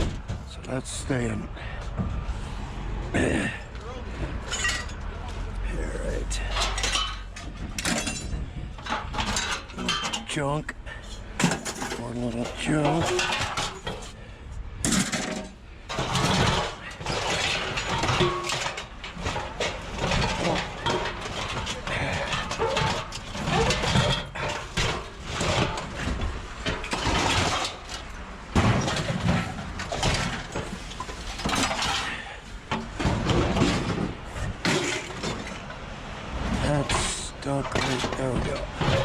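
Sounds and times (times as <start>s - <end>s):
scrap metal clanking and scraping: 0.0s - 39.0s.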